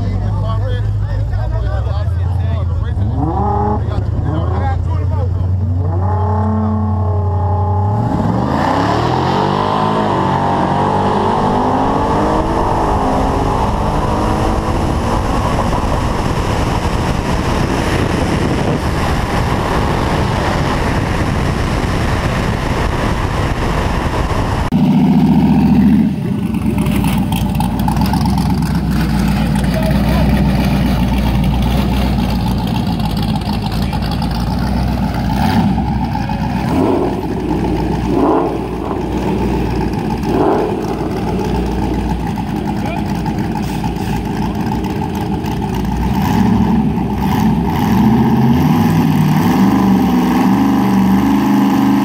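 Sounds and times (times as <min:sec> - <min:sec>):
another car engine running: 0:00.0 - 0:52.0
race car engine revving: 0:00.0 - 0:52.0
wind and road noise: 0:00.0 - 0:52.0.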